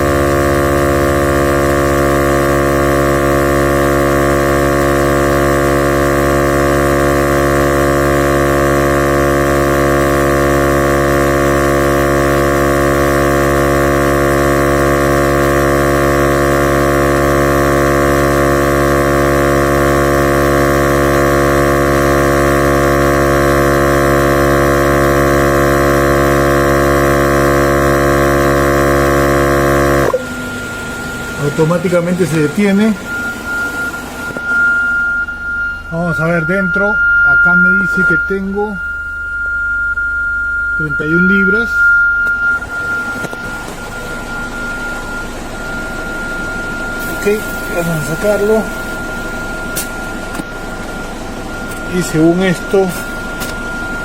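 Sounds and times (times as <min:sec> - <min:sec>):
tire inflator compressor running: 0:00.0 - 0:54.0.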